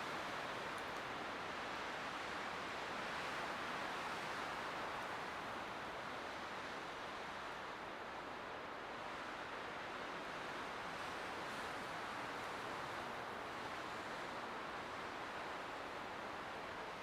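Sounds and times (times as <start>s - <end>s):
wind through pine trees: 0.0s - 17.0s.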